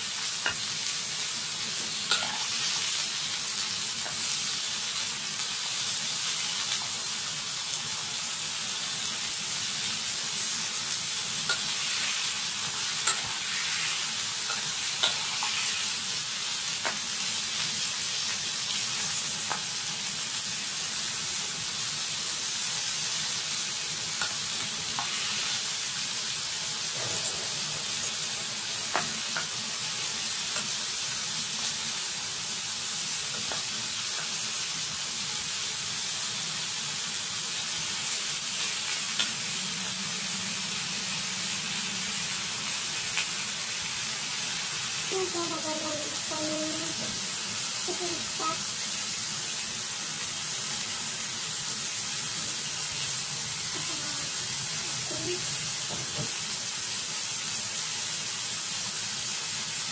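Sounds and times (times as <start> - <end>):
vegetables sizzling in a frying pan: 0.0 - 59.9.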